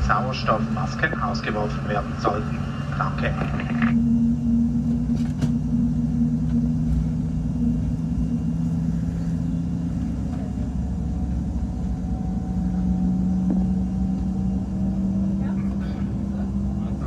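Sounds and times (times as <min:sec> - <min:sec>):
airplane cabin drone: 0:00.0 - 0:17.0.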